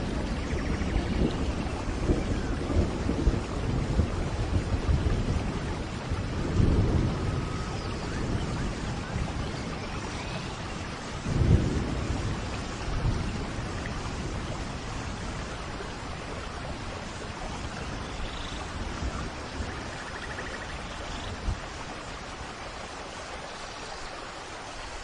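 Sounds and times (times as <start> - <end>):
thunder rumbling: 0.0 - 22.8
steady rainfall: 0.0 - 25.0.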